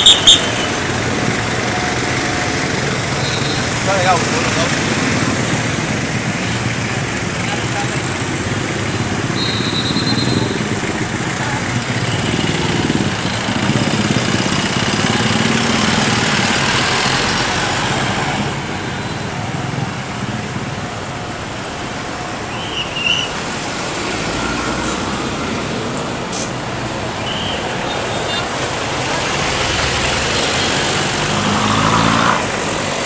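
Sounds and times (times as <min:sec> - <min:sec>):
cars passing: 0:00.0 - 0:33.0.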